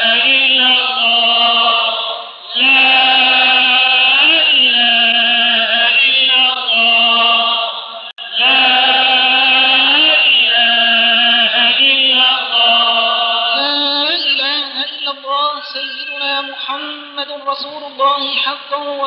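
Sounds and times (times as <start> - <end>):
person chanting a melody: 0.0 - 18.5.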